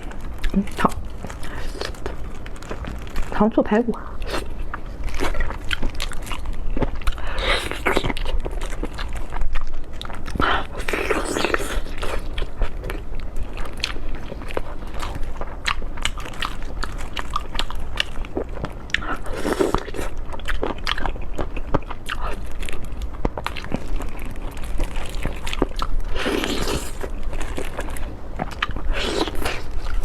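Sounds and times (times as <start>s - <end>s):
person chewing crunchy food: 0.0s - 3.4s, 4.0s - 30.0s.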